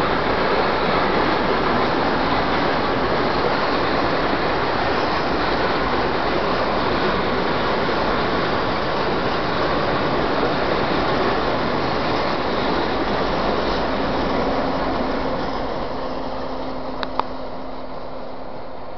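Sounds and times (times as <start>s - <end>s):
freight train wheels rumbling on rails: 0.0s - 18.9s.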